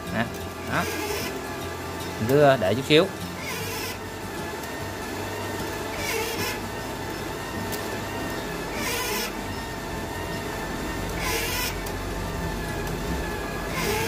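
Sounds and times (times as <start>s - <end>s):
wire-feed motor running: 0.0s - 14.0s.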